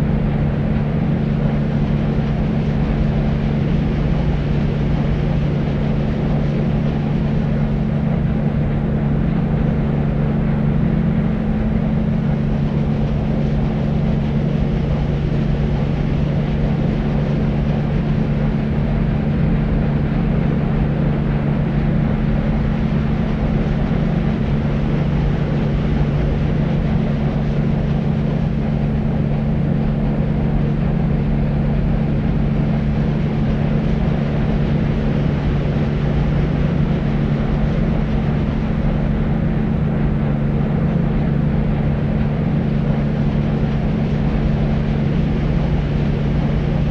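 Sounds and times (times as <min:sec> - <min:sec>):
constant low hum: 0:00.0 - 0:46.9
deep white noise: 0:00.0 - 0:46.9.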